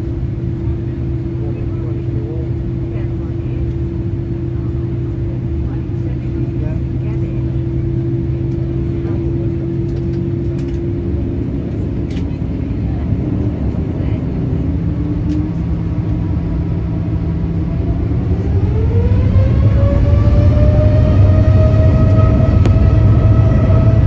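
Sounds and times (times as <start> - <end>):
jet engine whine rising: 0.0 - 24.0
jet engines humming at idle: 0.0 - 24.0.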